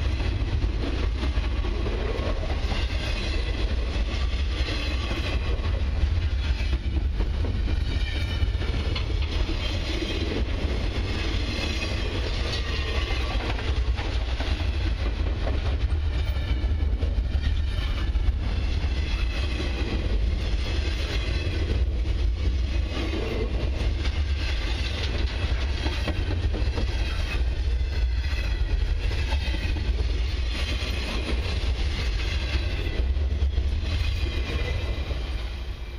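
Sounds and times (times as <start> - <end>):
freight train rolling past: 0.0 - 35.9
train wheel clatter: 0.0 - 35.9.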